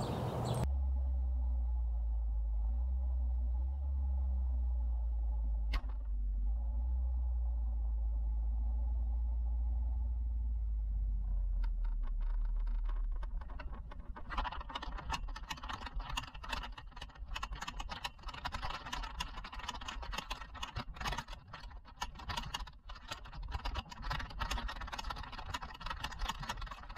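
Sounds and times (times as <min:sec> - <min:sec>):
low hum: 0:00.0 - 0:26.9
scooter engine running low: 0:00.0 - 0:26.9
trailer rattling over rough ground: 0:00.0 - 0:26.9.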